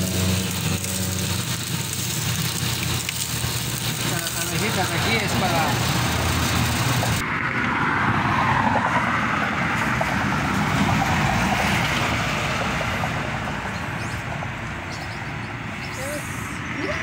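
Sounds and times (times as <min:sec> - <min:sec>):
engine running: 0:00.0 - 0:14.9.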